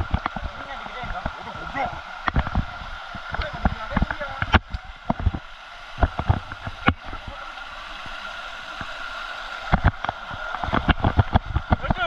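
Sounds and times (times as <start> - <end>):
waterfall rushing hiss: 0.0 - 12.0.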